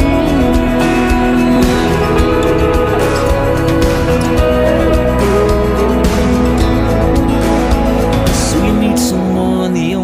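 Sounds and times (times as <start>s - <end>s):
person singing: 0.0s - 7.0s, 8.2s - 10.0s
guitar-led country music: 0.0s - 10.0s.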